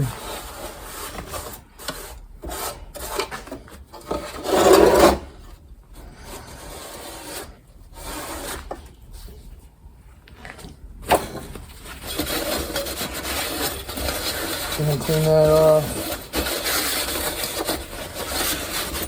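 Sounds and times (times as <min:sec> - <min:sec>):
scrubbing metal heater body: 0:00.0 - 0:09.5, 0:10.5 - 0:19.0.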